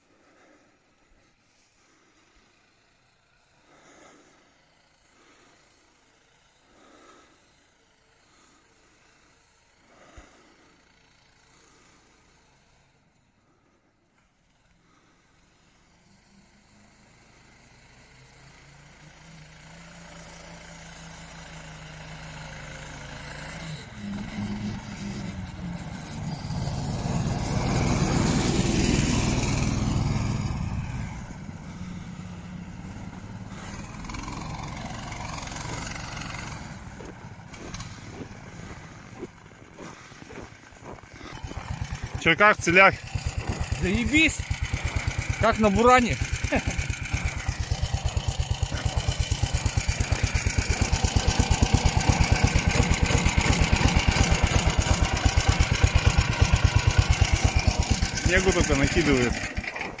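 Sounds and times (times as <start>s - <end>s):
small tracked snow tractor engine hum: 0.0s - 60.0s.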